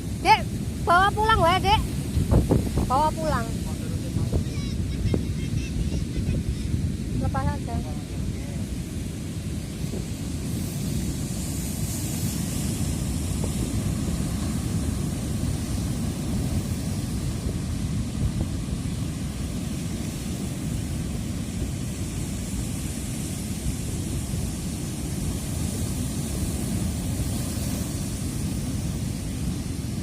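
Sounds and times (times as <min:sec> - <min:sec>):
ocean surf breaking: 0:00.0 - 0:30.0
wind noise on microphone: 0:00.0 - 0:30.0.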